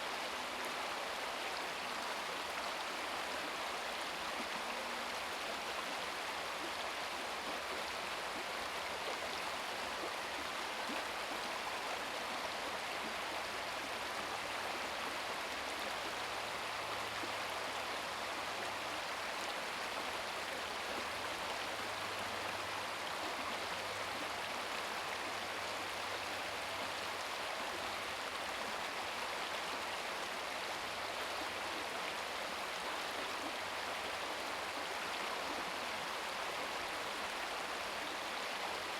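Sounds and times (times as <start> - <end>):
stream water flowing and splashing: 0.0 - 38.9.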